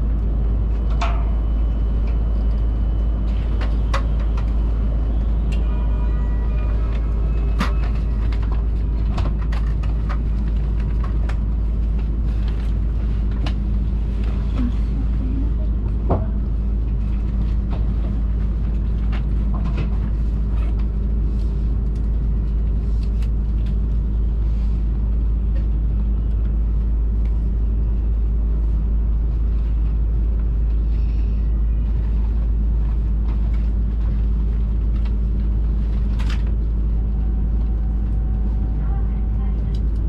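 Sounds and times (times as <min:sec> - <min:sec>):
constant hum: 0:00.0 - 0:40.0
train cabin rumble: 0:00.0 - 0:40.0.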